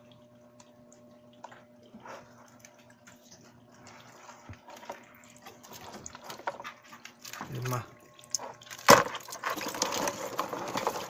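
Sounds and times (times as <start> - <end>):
water sloshing and dripping: 0.0 - 11.0.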